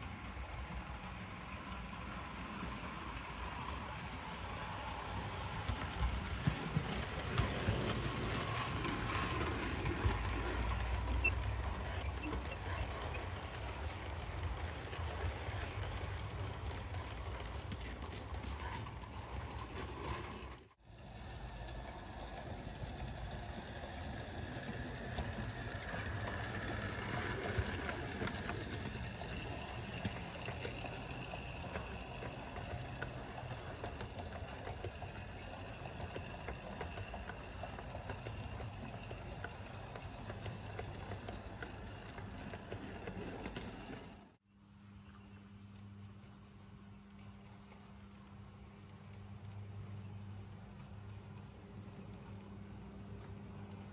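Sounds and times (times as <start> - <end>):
model train wheels rumbling: 0.0 - 44.4.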